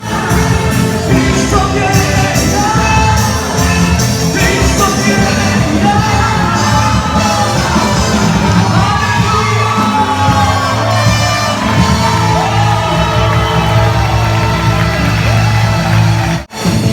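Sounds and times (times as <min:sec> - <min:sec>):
crowd shouting: 0:00.0 - 0:16.5
live band with singer: 0:00.0 - 0:16.9.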